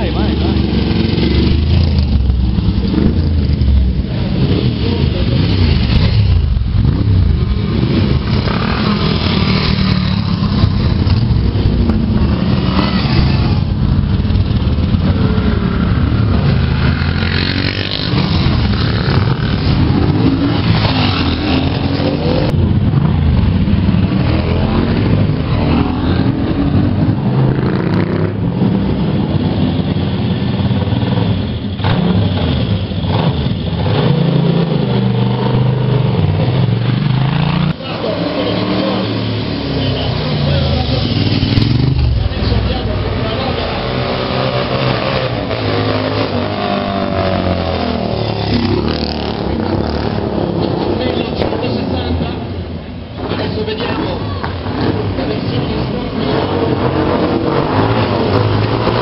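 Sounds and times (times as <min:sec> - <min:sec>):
motorcycles riding past: 0:00.0 - 0:59.0.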